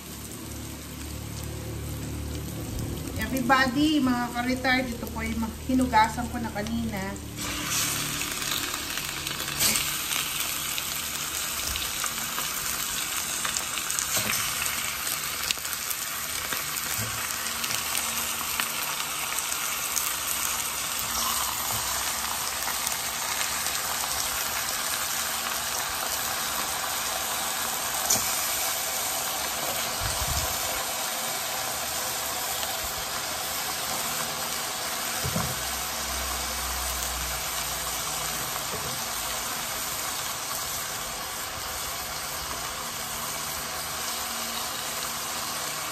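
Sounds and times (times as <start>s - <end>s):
meat sizzling in oil: 0.0s - 45.9s.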